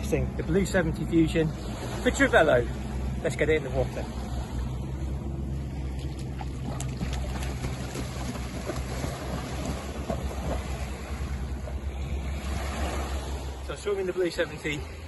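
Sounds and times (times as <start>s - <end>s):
splashing in shallow water: 1.5s - 15.0s.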